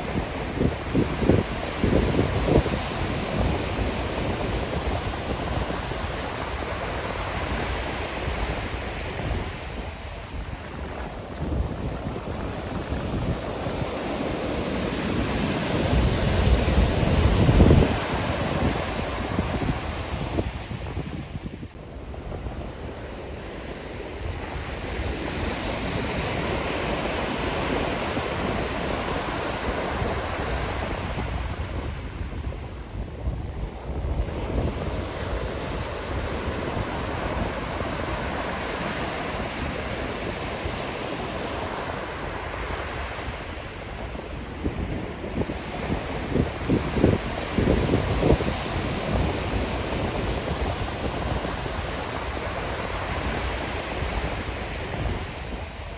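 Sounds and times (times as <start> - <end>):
ocean waves breaking: 0.0 - 55.9
wind rumbling on microphone: 0.0 - 55.9.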